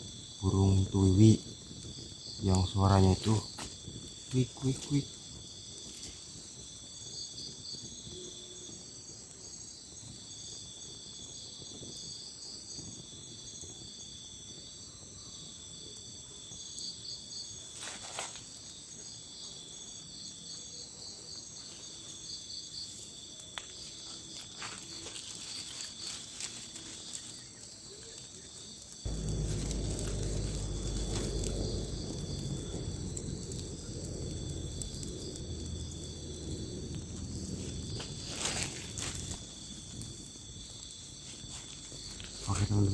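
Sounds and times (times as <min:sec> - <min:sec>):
crickets chirping trills: 0:00.0 - 0:42.9
crickets droning: 0:00.0 - 0:42.9.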